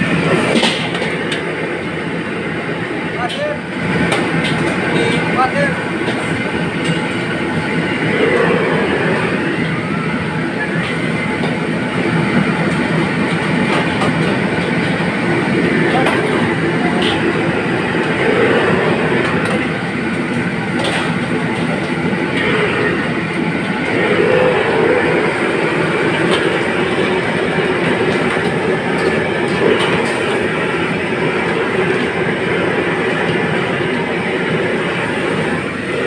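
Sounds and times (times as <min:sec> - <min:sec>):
gas burner rushing: 0:00.0 - 0:36.0.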